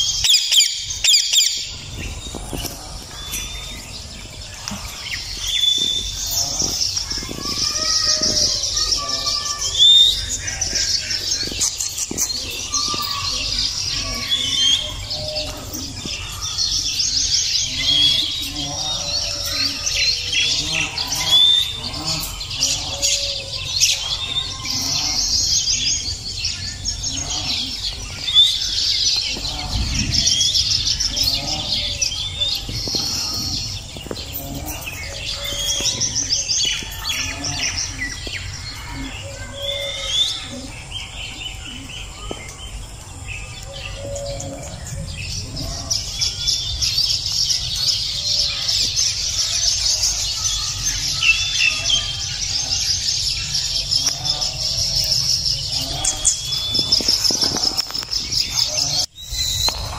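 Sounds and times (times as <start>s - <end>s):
parakeets chirping and chattering: 0.0s - 59.9s.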